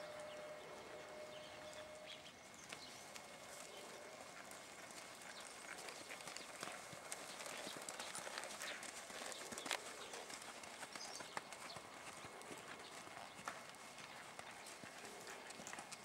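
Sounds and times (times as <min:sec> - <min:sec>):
horse hooves walking on sand: 0:00.0 - 0:16.0
sharp hoof clicks: 0:02.5 - 0:16.0.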